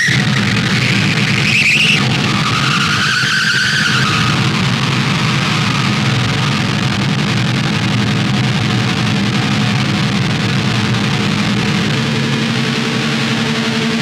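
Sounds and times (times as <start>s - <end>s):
noisy synth drone: 0.0s - 14.0s.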